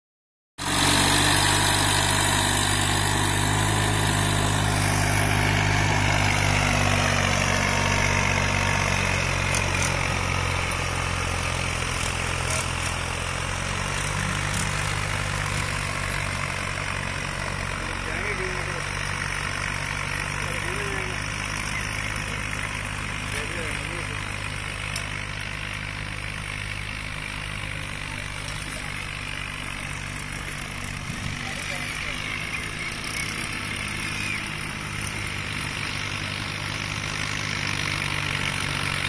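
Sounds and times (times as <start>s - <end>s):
tractor diesel engine running: 0.6s - 39.0s.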